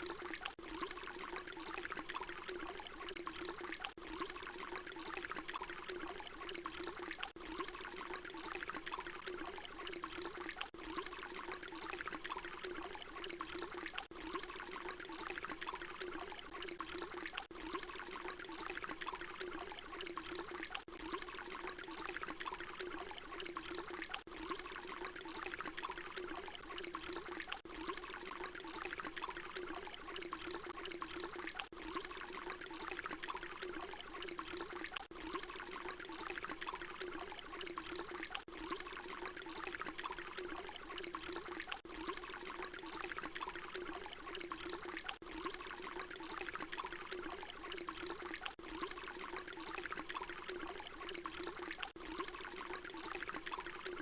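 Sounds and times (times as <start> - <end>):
water pouring: 0.0 - 54.0.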